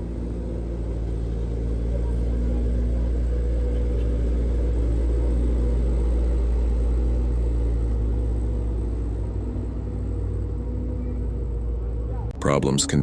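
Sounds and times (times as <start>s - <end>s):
truck diesel engine labouring: 0.0s - 13.0s.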